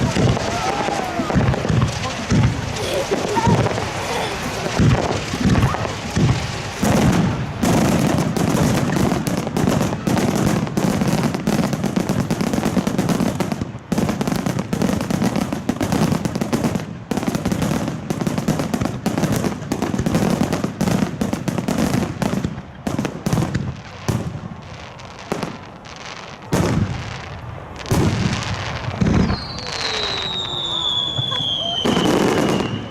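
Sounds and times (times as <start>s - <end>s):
fireworks bursting and crackling: 0.0s - 32.9s.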